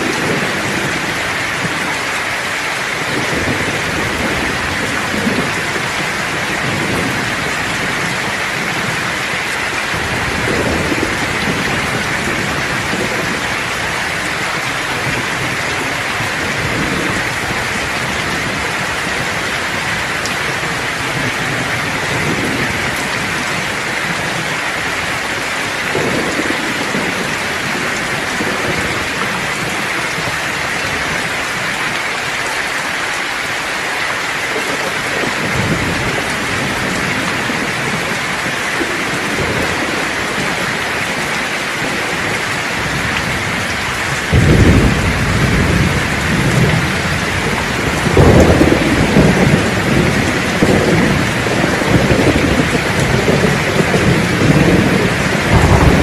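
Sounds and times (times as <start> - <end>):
steady rain falling: 0.0 - 56.0
distant thunder rumbles: 2.9 - 31.5, 34.6 - 56.0.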